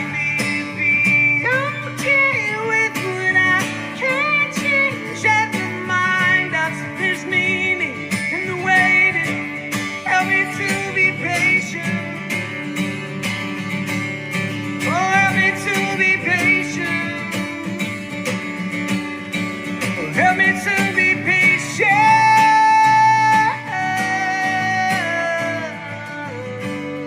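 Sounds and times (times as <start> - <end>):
man singing: 0.0 - 13.0, 14.7 - 18.9, 19.6 - 27.0
strummed acoustic guitar: 0.0 - 27.0.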